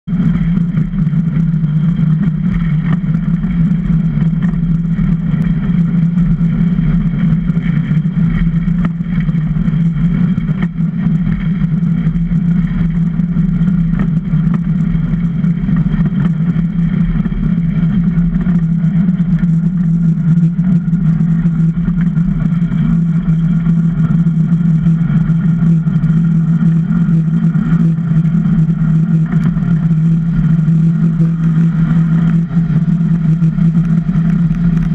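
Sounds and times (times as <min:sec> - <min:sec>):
iceboat runners humming on ice: 0:00.0 - 0:34.9.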